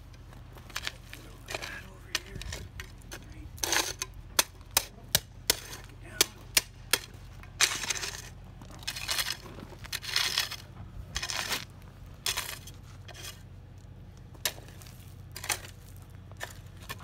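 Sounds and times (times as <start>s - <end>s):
scraper scraping mulch over gravel: 0.0s - 17.0s.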